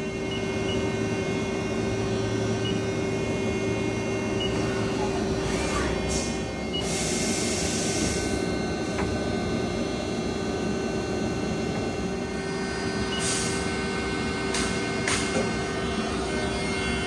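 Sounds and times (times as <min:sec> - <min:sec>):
machine humming with tones: 0:00.0 - 0:17.0.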